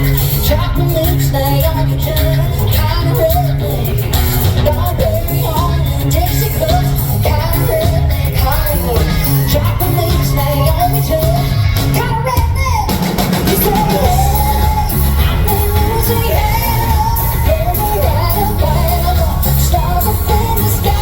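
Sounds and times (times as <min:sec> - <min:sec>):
crowd yelling: 0:00.0 - 0:21.0
live country band: 0:00.0 - 0:21.0
person singing: 0:00.0 - 0:21.0.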